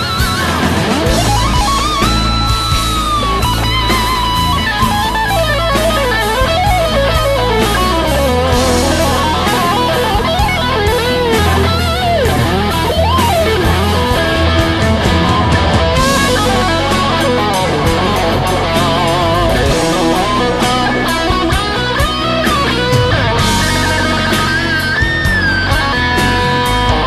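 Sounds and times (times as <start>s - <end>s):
electric guitar solo: 0.0s - 27.0s
rock backing track: 0.0s - 27.0s.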